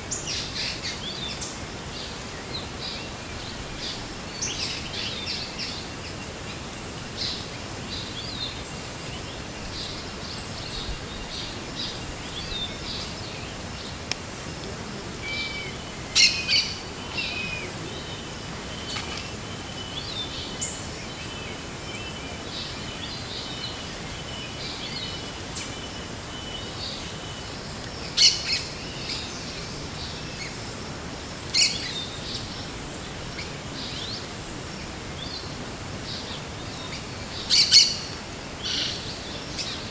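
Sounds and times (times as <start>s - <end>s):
background hiss: 0.0s - 39.9s
forest birds chirping and singing: 0.0s - 39.9s.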